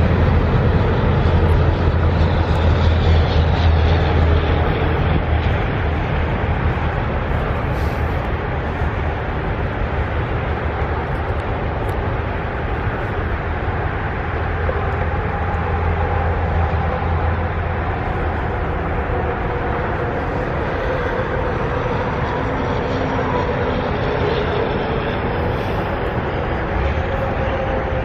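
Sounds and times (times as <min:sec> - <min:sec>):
freight train rolling on rails: 0:00.0 - 0:28.0.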